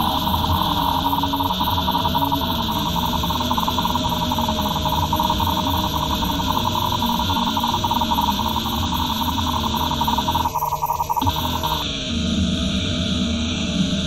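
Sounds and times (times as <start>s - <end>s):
electronic noise music: 0.0s - 12.0s.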